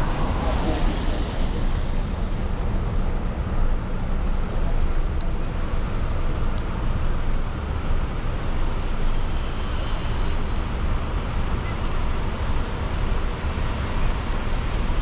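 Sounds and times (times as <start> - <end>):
car road noise rumble: 0.0 - 15.0.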